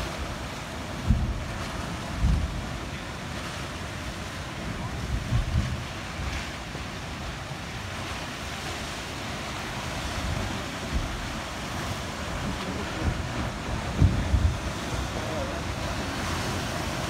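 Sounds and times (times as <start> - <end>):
ocean surf over rocks: 0.0 - 17.0
wind rumbling on microphone: 0.0 - 17.0.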